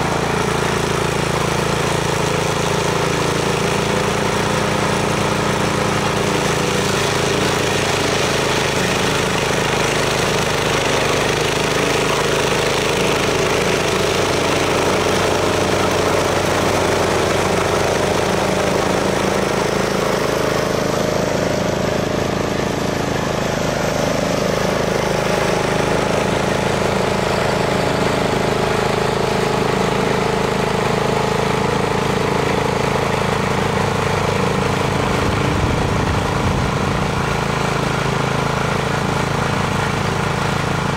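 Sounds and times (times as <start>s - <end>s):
blades cutting tall grass: 0.0s - 40.9s
mower engine running: 0.0s - 40.9s.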